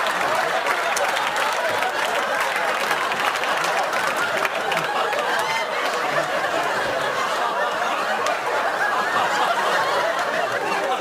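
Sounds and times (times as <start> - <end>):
audience laughing: 0.0 - 11.0
scattered applause: 0.0 - 11.0.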